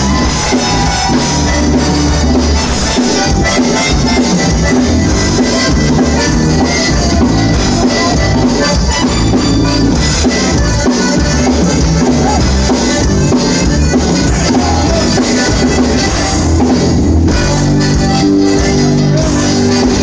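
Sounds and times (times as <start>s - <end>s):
button accordion: 0.0s - 20.0s
live band playing: 0.0s - 20.0s.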